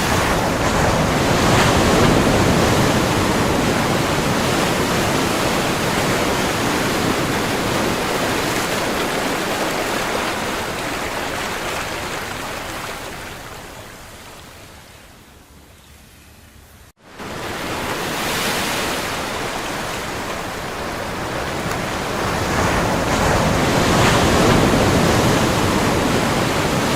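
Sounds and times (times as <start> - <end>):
ocean waves breaking: 0.0 - 15.6, 17.0 - 26.9.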